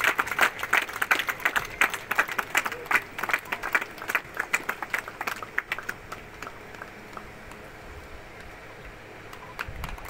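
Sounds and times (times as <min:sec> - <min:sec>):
audience applause: 0:00.0 - 0:07.7, 0:09.3 - 0:10.0
low steady background noise: 0:00.0 - 0:10.0.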